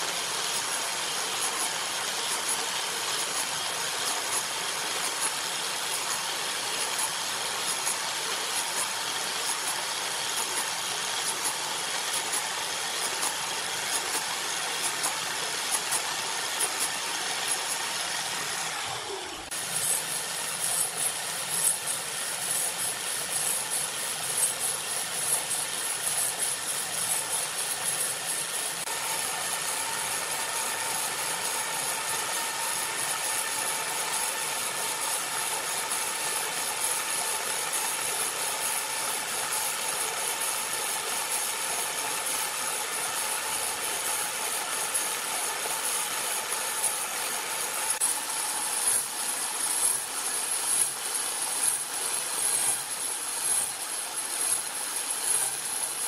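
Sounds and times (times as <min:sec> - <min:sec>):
angle grinder grinding wood: 0:00.0 - 0:56.0.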